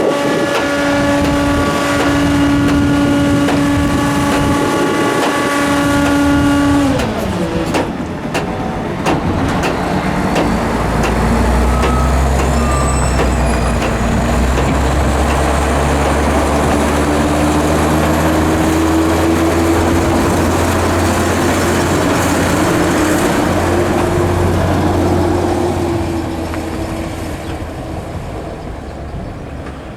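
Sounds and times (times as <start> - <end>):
truck diesel engine running: 0.0 - 29.9.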